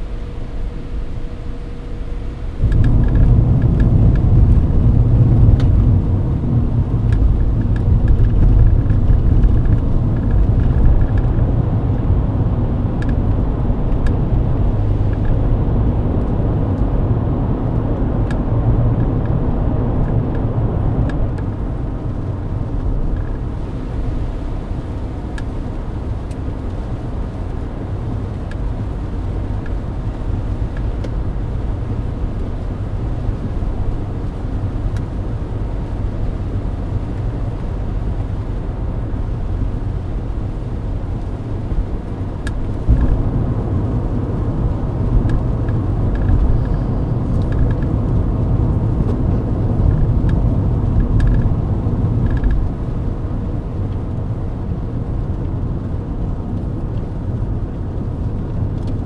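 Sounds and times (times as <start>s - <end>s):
tyre and road rumble: 0.0s - 59.0s.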